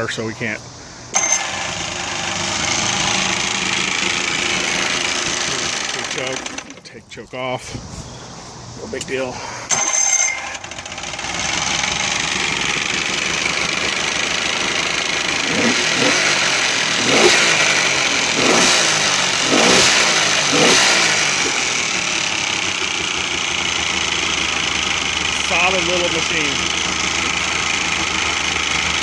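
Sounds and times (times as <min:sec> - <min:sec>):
outboard motor revving and idling: 0:01.1 - 0:06.9, 0:09.7 - 0:29.0.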